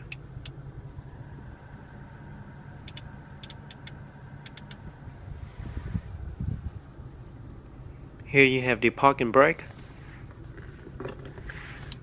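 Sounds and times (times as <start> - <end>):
low cabin hum: 0.0 - 12.0.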